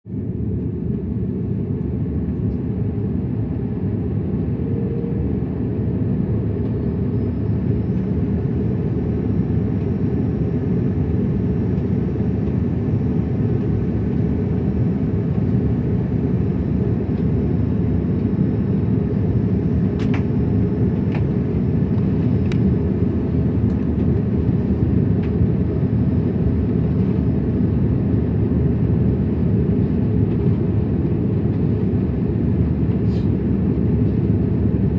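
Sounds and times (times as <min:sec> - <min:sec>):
airliner cabin rumble: 0:00.1 - 0:34.9.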